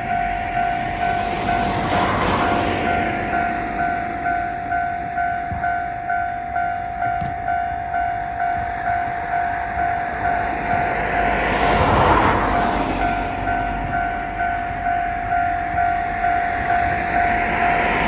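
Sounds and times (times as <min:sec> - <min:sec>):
crossing warning bell ringing: 0:00.0 - 0:18.0
train rushing past: 0:00.0 - 0:18.0.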